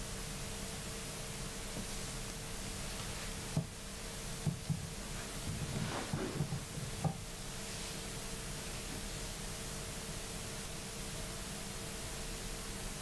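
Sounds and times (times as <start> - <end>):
faint constant hum: 0.0 - 13.0
steady hiss: 0.0 - 13.0.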